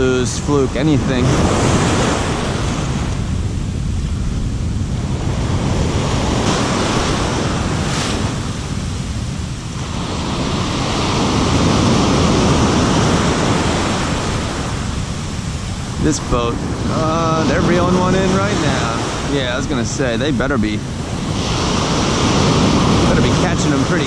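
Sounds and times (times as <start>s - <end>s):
ocean surf breaking: 0.0s - 24.0s
wind rumbling on microphone: 0.0s - 24.0s.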